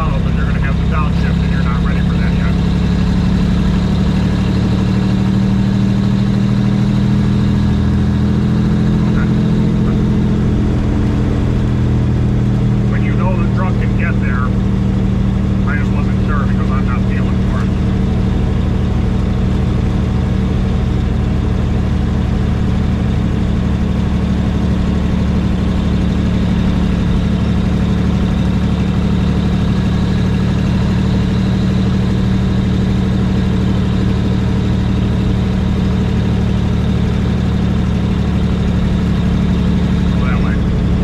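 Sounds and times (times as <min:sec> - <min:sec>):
truck engine drone from cab: 0:00.0 - 0:41.0.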